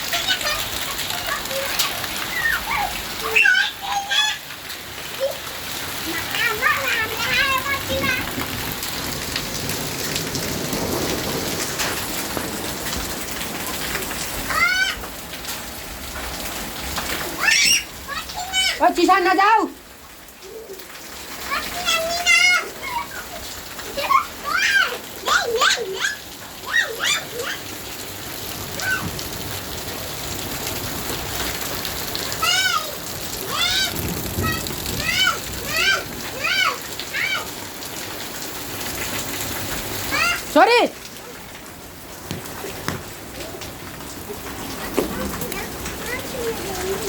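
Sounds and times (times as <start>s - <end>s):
rain falling and splashing: 0.0s - 47.0s.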